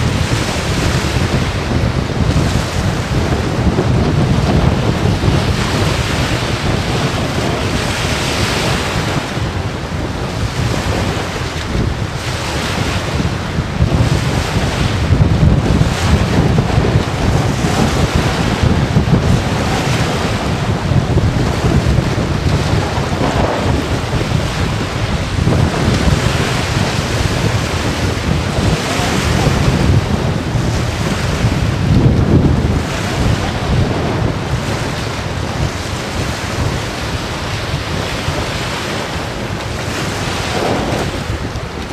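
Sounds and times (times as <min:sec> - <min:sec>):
gusty wind buffeting microphone: 0:00.0 - 0:41.9.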